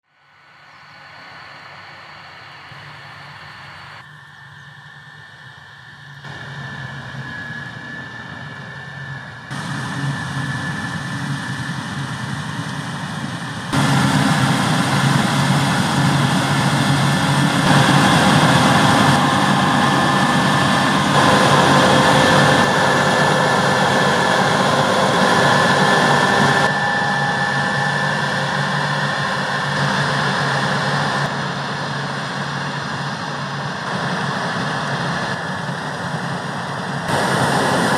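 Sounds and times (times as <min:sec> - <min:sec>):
steady high whine: 0:00.0 - 0:37.9
farm machinery engine drone: 0:06.3 - 0:37.9.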